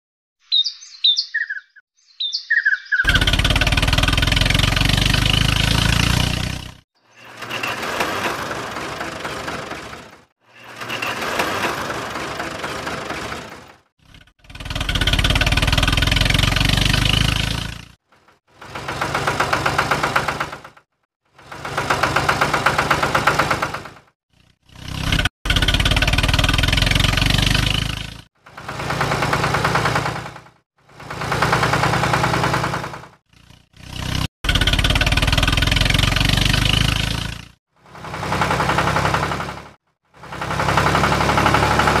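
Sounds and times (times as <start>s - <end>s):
tractor engine putter: 3.1s - 20.8s, 21.4s - 42.0s.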